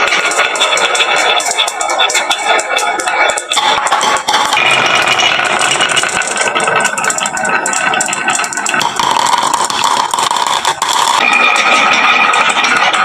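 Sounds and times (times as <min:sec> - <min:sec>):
glass marbles clattering on wood: 0:00.0 - 0:13.0.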